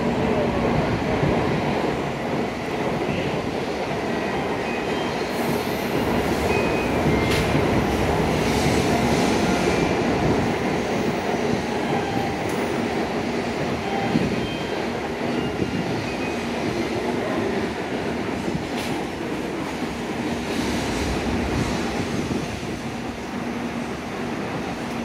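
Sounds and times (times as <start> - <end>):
idling train rumble and hum: 0.0 - 25.0.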